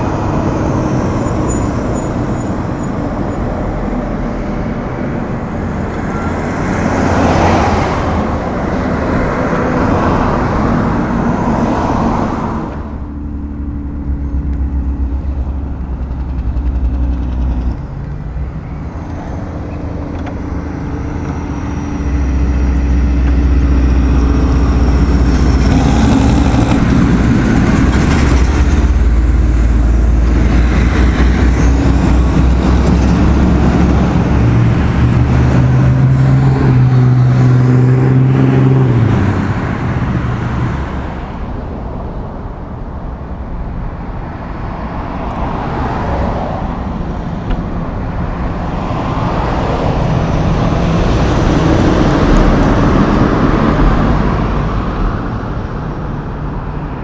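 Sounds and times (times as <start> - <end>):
quieter traffic: 0.0 - 57.0
trucks passing: 0.0 - 57.0.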